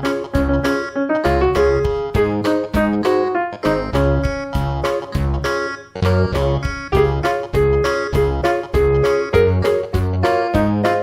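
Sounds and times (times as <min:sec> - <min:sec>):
upbeat keyboard music with bass beat: 0:00.0 - 0:11.0.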